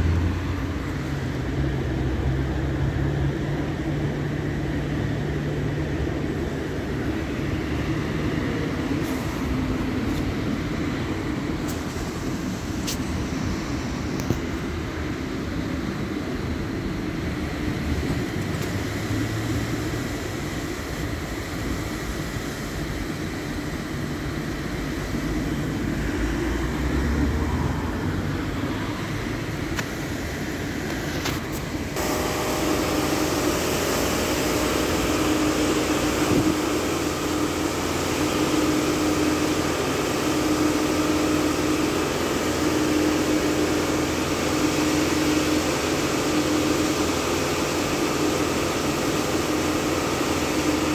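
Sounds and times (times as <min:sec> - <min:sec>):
hissy machinery hum: 0:00.0 - 0:50.9
car wash brushes and spray: 0:02.8 - 0:50.9.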